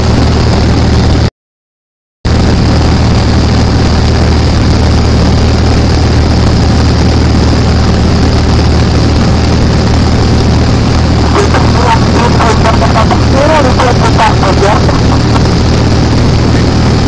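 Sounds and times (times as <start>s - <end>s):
engine running steadily: 0.0s - 1.3s, 2.3s - 17.0s.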